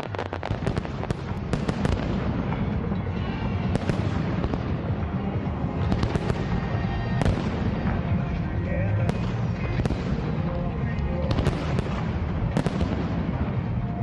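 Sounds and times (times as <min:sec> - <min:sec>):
fireworks bangs and cracks: 0:00.0 - 0:14.0
fireworks crackling pops: 0:00.0 - 0:14.0
low rumble of distant explosions: 0:00.0 - 0:14.0.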